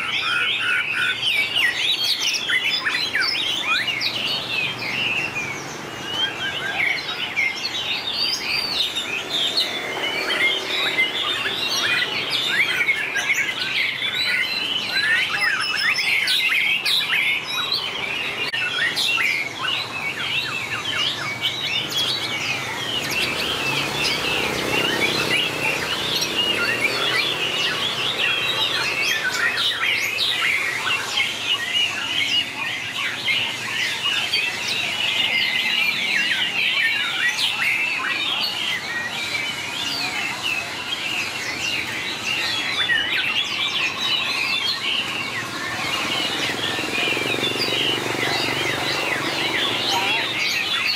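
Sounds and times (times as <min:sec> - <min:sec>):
bird singing whistles and trills: 0:00.0 - 0:50.9.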